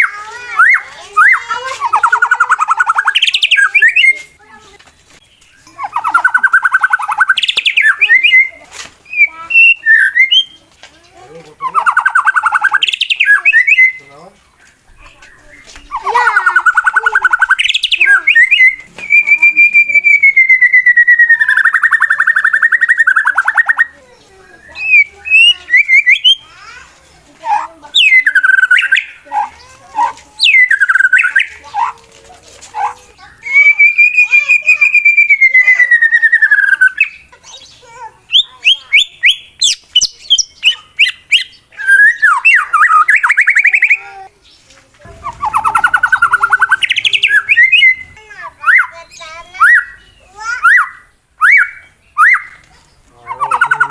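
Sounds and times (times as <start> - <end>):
bird singing whistles and trills: 0.0 - 4.4, 5.4 - 10.6, 11.6 - 14.1, 15.2 - 26.4, 27.9 - 29.2, 30.0 - 31.6, 32.8 - 44.1, 45.1 - 52.6, 53.2 - 53.9.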